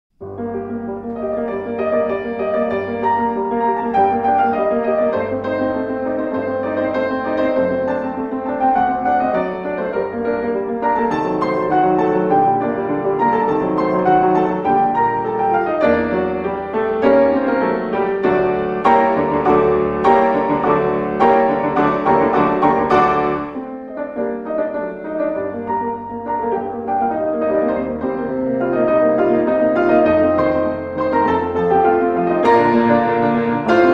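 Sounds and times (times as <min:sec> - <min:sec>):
solo classical piano piece: 0:00.1 - 0:33.9.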